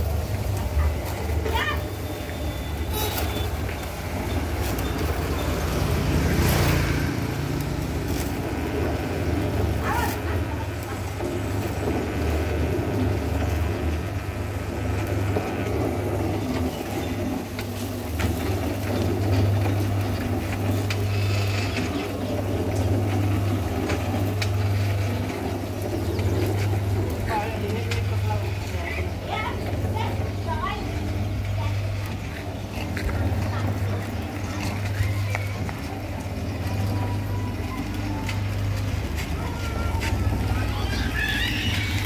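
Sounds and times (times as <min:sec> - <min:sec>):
cement mixer motor humming: 0:00.0 - 0:42.0.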